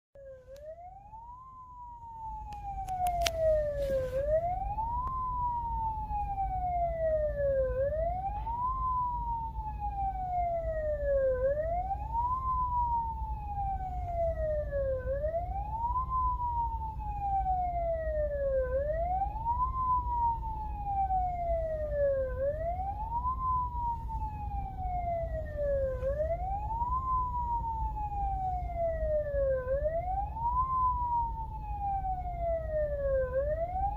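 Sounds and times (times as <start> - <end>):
ambulance siren wailing: 0.2 - 33.9
car engine and tyres rumble: 0.2 - 33.9.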